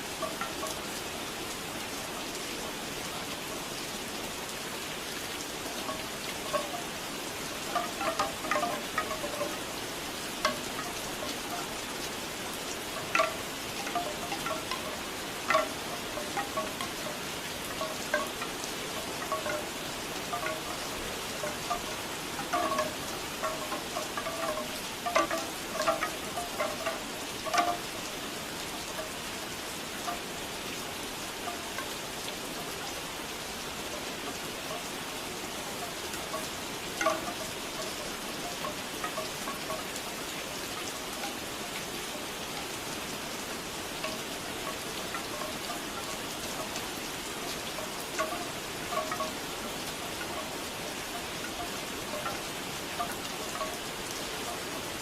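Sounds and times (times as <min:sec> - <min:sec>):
bamboo wind chimes knocking: 0:00.0 - 0:00.9, 0:05.6 - 0:31.9, 0:33.9 - 0:55.0
steady rain: 0:00.0 - 0:55.0.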